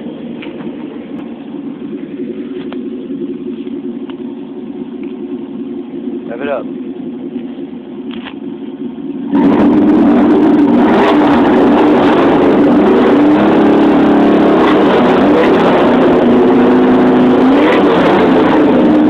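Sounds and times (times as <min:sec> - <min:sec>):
pickup truck engine revving: 0:00.0 - 0:19.0.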